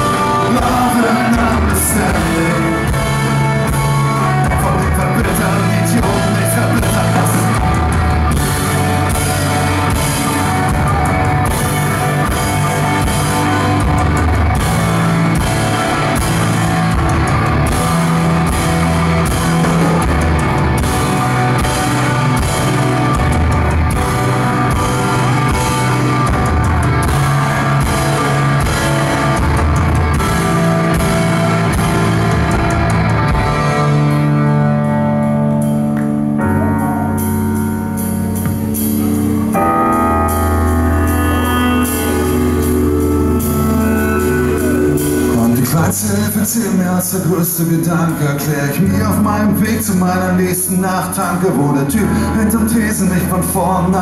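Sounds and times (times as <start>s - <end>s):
drum kit beat: 0.0s - 34.6s, 37.2s - 46.0s
electric bass guitar: 0.0s - 54.0s
electric guitars: 0.0s - 54.0s.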